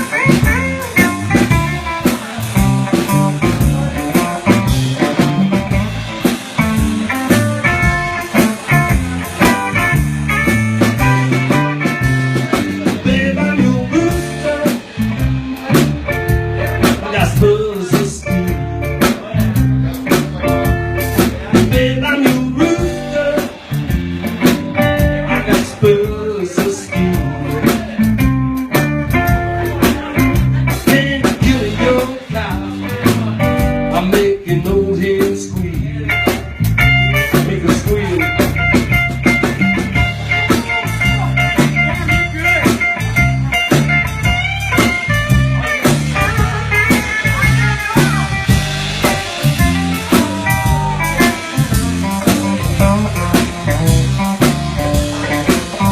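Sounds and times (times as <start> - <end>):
bass line: 0.0 - 55.9
blues guitar: 0.0 - 55.9.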